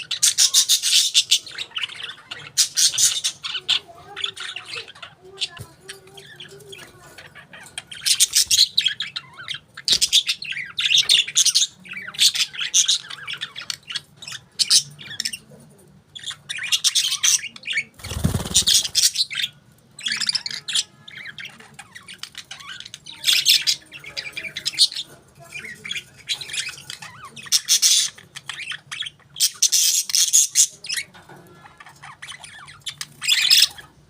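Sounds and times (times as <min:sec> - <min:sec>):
budgerigars chirping: 0:00.0 - 0:15.5, 0:16.2 - 0:33.9.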